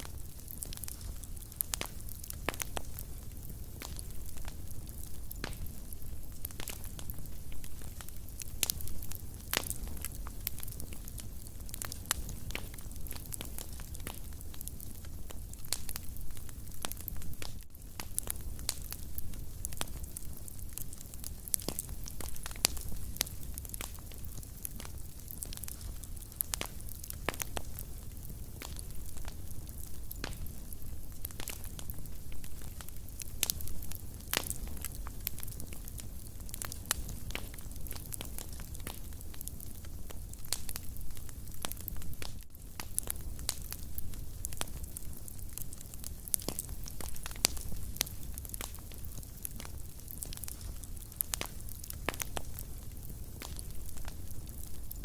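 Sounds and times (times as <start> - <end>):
fire crackling with pops: 0.0 - 55.0
low rumble of flames: 0.0 - 55.0.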